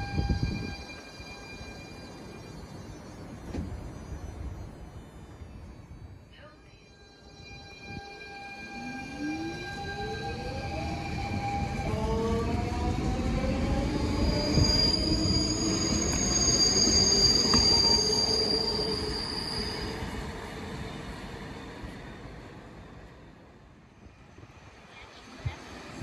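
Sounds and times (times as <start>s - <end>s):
train wheels squealing: 0.0s - 26.0s.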